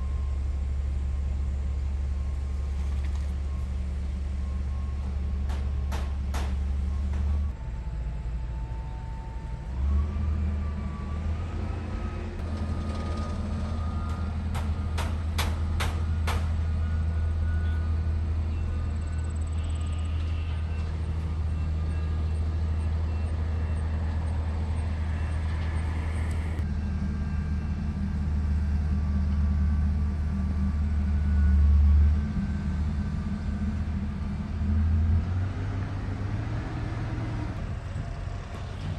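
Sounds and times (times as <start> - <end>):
vehicle engine and road hum: 0.0 - 38.9.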